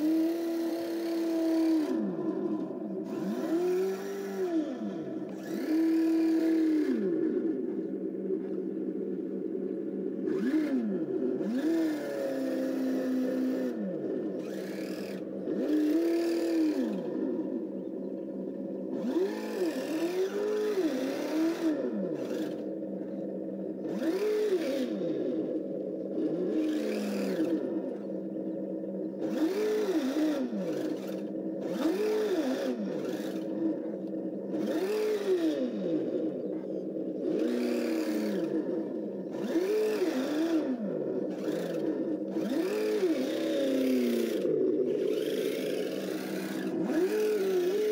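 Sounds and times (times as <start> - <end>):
simulated engine revving: 0.0 - 47.9.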